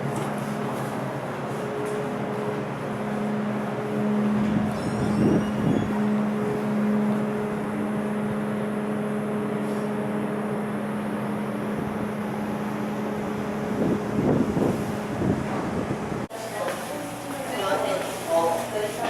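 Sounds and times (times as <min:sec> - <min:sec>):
ferry machinery humming: 0:00.0 - 0:19.0.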